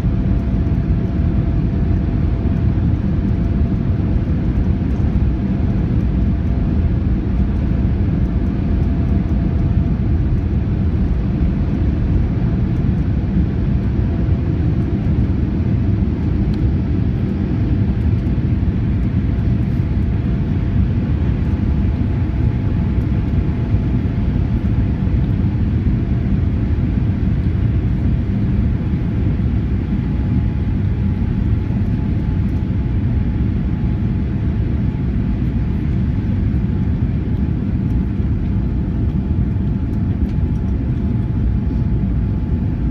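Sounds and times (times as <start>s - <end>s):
jet engines deep rumble: 0.0s - 42.9s.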